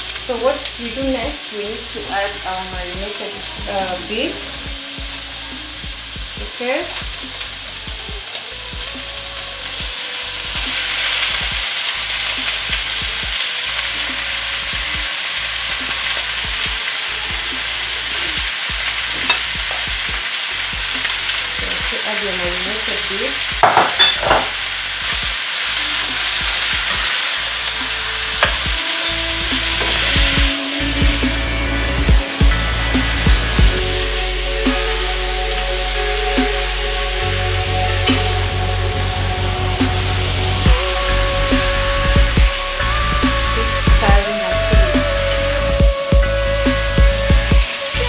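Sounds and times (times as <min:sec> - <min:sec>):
beef and onions sizzling in oil: 0:00.0 - 0:48.0.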